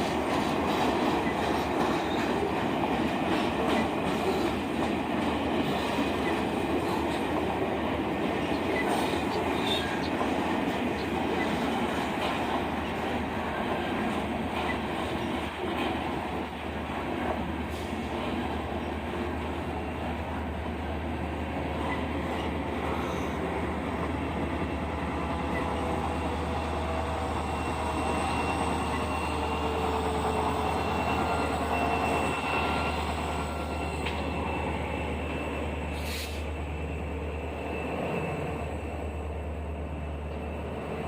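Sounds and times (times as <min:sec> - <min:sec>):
train rolling on rails: 0:00.0 - 0:41.0.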